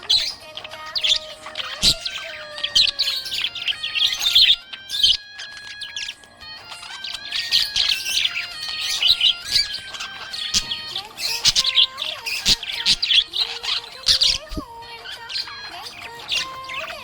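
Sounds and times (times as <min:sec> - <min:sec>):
budgerigar chirping: 0:00.0 - 0:17.0.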